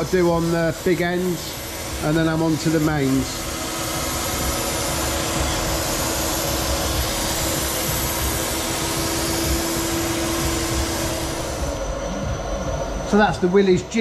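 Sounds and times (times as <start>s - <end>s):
grinding wheel hiss: 0.0s - 14.0s
machine hum: 0.0s - 14.0s.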